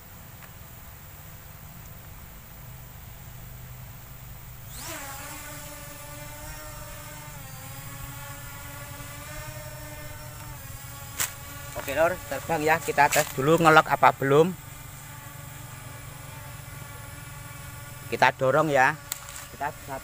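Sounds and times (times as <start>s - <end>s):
drone propellers whining: 3.4s - 20.0s.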